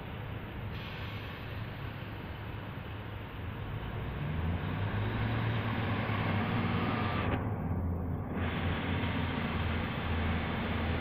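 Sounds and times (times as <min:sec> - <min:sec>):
diesel engine hum: 0:00.0 - 0:11.0.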